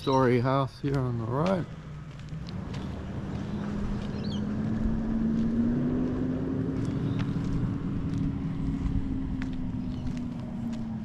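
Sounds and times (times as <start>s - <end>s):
motor engine humming: 0.0s - 11.0s
low rumble: 1.6s - 11.0s.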